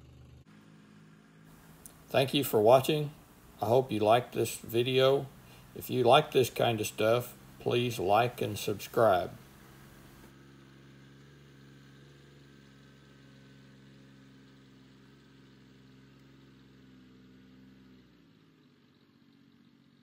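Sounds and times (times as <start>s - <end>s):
faint tractor engine running: 0.0s - 20.0s.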